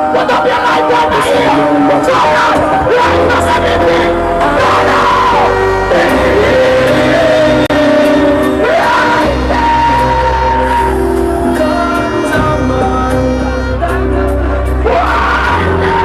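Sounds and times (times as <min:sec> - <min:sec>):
heavy bass music: 0:00.0 - 0:16.0
person singing long notes: 0:00.0 - 0:16.0.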